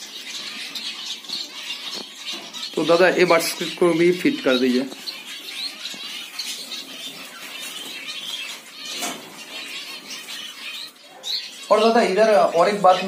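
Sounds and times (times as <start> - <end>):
finches chirping and twittering: 0.0 - 13.0.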